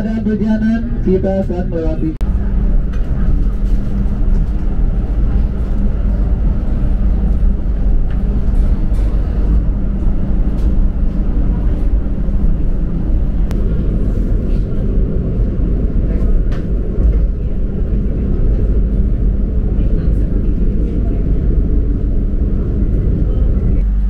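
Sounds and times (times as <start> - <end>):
train rumble inside carriage: 0.0 - 24.0.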